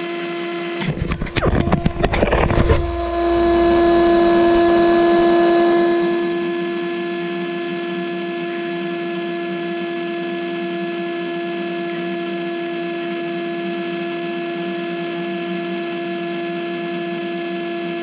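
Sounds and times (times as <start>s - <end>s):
electric hum of rc buggy: 0.8s - 18.0s.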